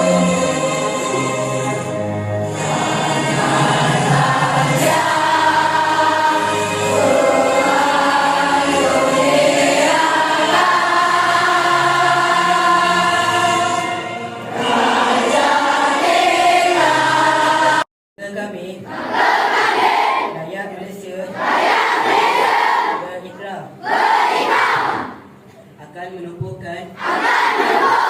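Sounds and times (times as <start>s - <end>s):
choir singing: 0.0s - 17.9s, 18.9s - 20.4s, 21.3s - 23.0s, 23.8s - 25.3s, 27.0s - 28.0s.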